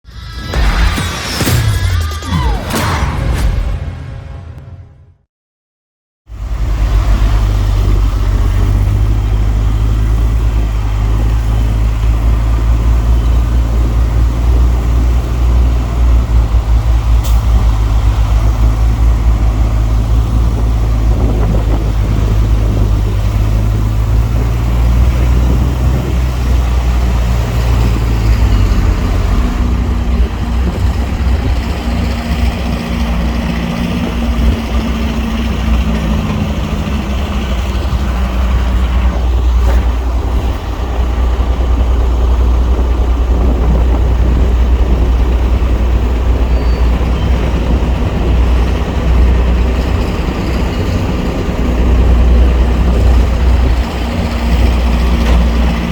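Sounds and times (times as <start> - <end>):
heavy diesel engine running: 6.3 - 55.9.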